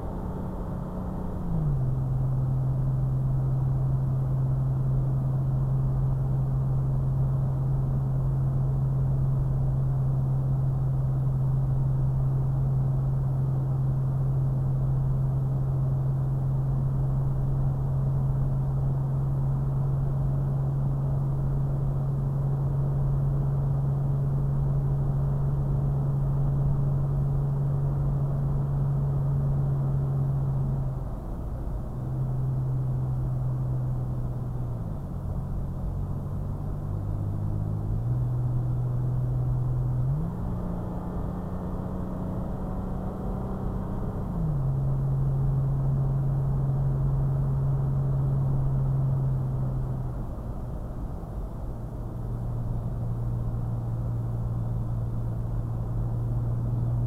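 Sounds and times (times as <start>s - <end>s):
car engine droning: 0.0s - 57.0s.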